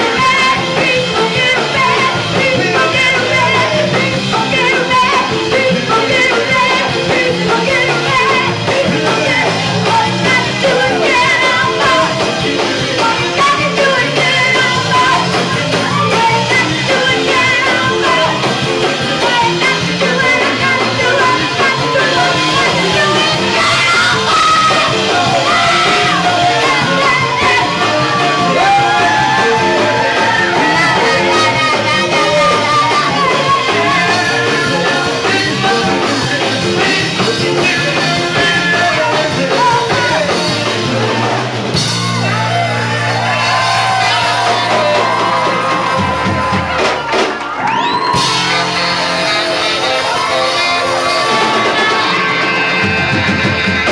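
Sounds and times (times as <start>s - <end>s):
live gospel soul band: 0.0s - 53.9s.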